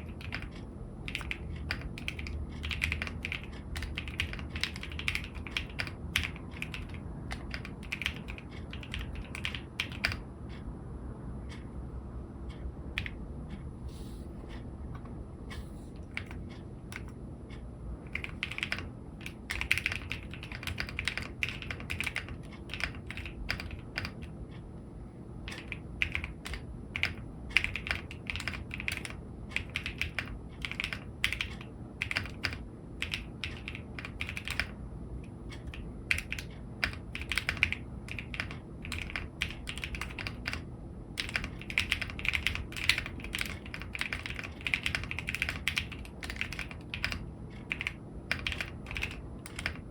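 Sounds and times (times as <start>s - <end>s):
typing on mechanical keyboard: 0.0s - 10.2s, 16.0s - 17.2s, 18.0s - 24.4s, 25.4s - 49.9s.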